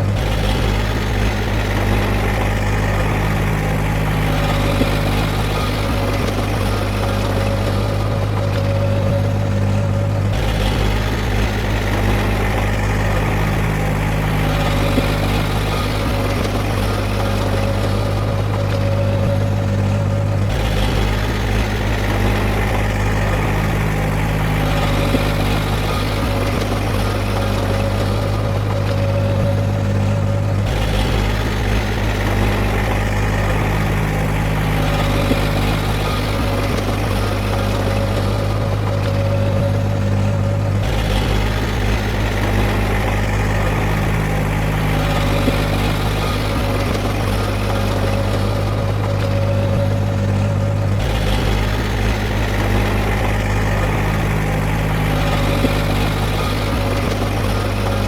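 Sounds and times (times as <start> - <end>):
heavy diesel engine humming: 0.0 - 58.0.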